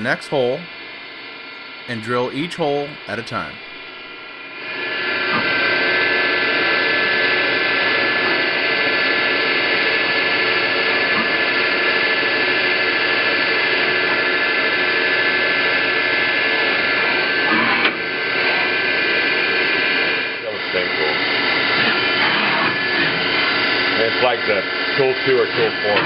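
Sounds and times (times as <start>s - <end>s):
drilling machine whine: 3.6s - 26.0s.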